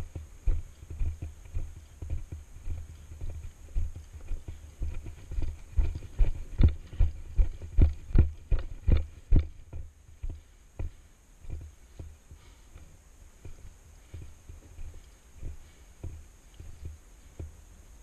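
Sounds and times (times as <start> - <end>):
footsteps on asphalt: 0.0 - 17.6.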